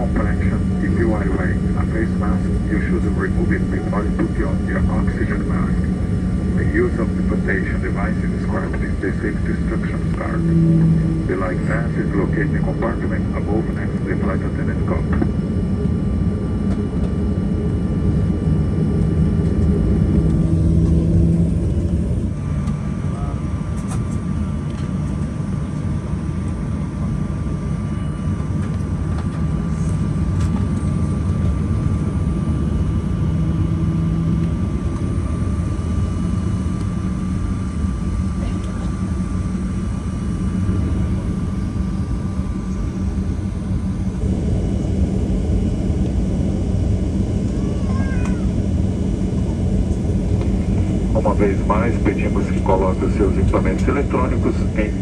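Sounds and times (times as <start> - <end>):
low hum: 0.0 - 23.6, 26.4 - 55.0
aircraft cabin drone: 0.0 - 55.0
faint steady whine: 0.0 - 55.0.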